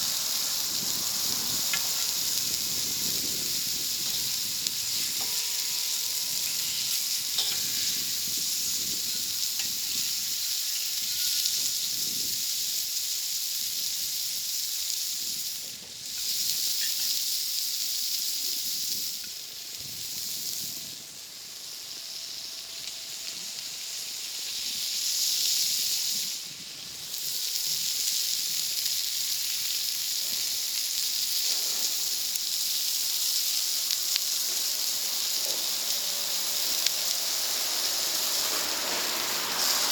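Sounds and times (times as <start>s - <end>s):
food sizzling over fire: 0.0s - 39.9s.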